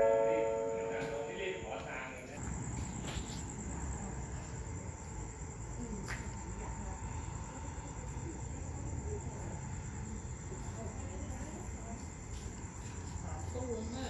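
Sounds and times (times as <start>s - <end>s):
insect high steady trill: 0.0s - 14.0s.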